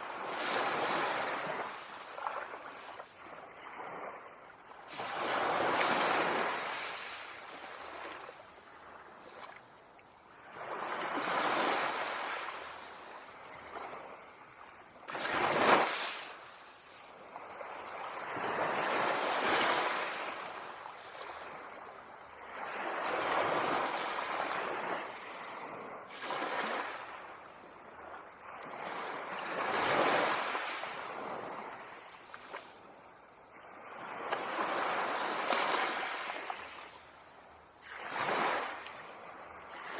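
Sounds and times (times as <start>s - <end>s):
ocean waves breaking on sand: 0.0s - 39.9s.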